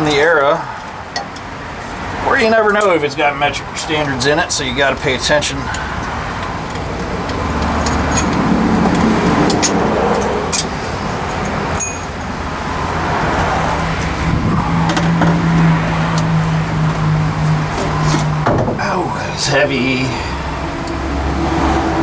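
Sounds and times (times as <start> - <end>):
engine-like hum: 0.0 - 22.0
motor vehicle drone: 3.6 - 22.0.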